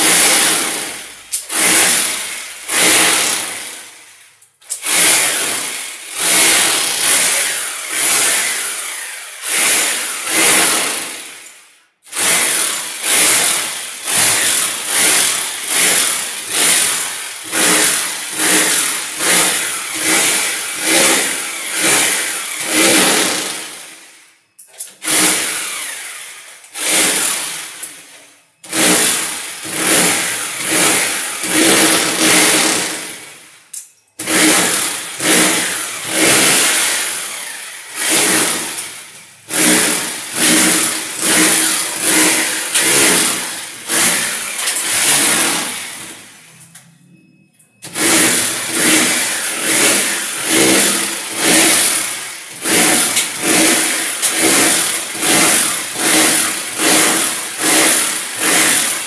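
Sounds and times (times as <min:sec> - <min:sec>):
rotary hammer chiselling concrete: 0:00.0 - 0:24.1, 0:24.8 - 0:46.2, 0:47.8 - 0:59.0.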